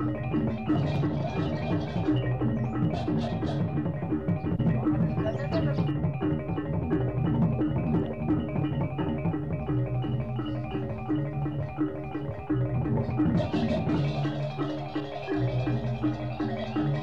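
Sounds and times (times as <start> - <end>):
gamelan metallophones playing: 0.0 - 17.0.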